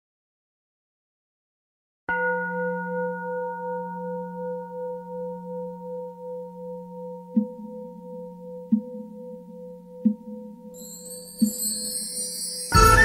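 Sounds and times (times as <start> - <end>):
bowl bell ringing: 2.1 - 13.0.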